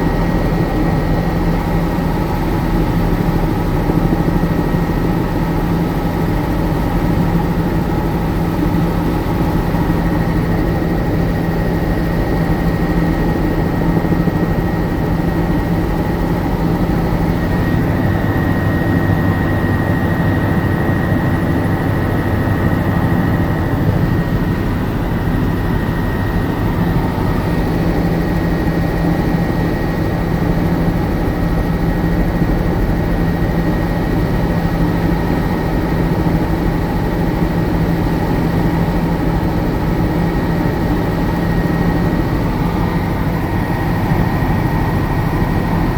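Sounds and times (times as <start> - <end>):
helicopter drone: 0.0 - 45.9.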